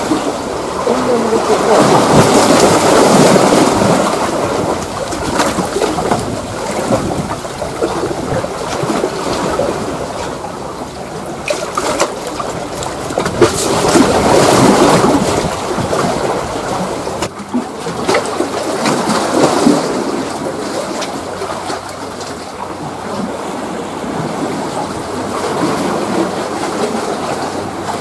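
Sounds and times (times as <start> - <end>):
sea waves washing against rocks: 0.0 - 28.0.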